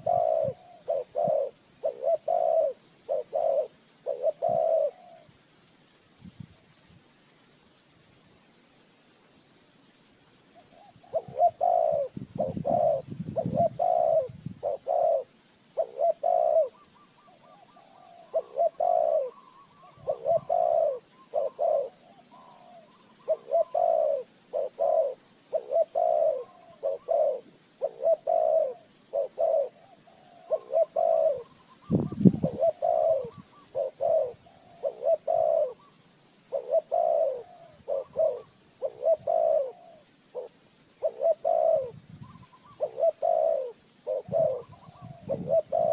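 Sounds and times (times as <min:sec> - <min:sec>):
dove cooing: 0:00.0 - 0:05.4, 0:10.6 - 0:45.9.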